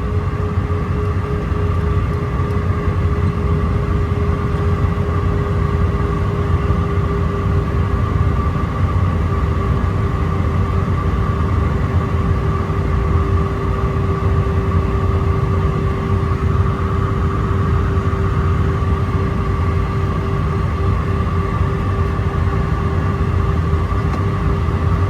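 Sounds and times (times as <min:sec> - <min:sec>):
airflow and jet engine rumble: 0:00.0 - 0:25.0.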